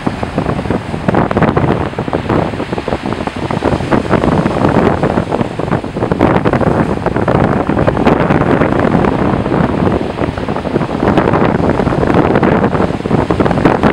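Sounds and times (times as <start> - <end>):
surf washing up a beach: 0.0 - 13.9
wind buffeting microphone: 0.0 - 13.9.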